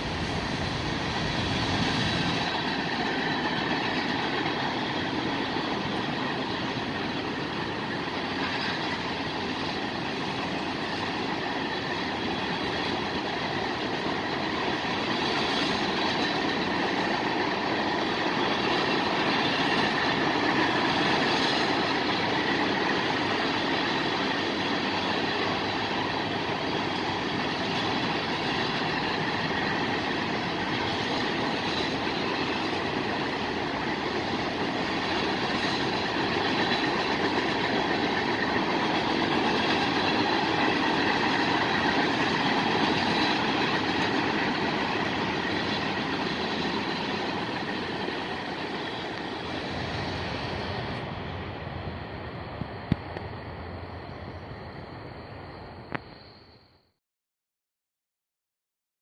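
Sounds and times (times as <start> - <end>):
steel wheels on rail: 0.0 - 56.6.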